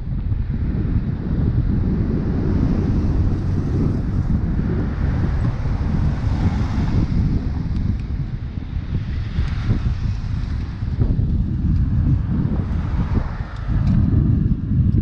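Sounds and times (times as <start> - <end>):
road traffic passing: 0.0 - 15.0
wind buffeting microphone: 0.0 - 15.0
truck passing: 0.6 - 14.4.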